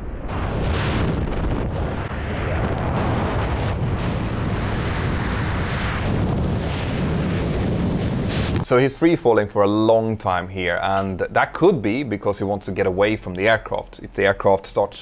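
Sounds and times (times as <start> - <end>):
wind roaring over microphone: 0.0 - 13.7.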